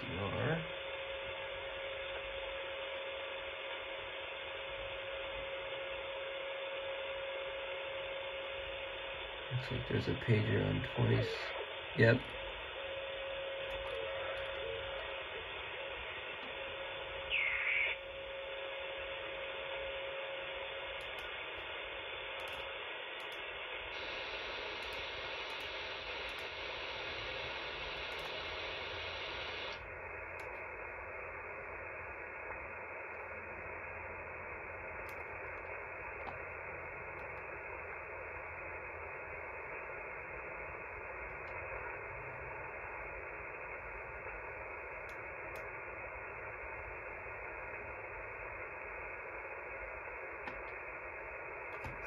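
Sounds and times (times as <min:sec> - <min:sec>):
radio static hiss: 0:00.0 - 0:52.0
static burst: 0:00.0 - 0:52.0.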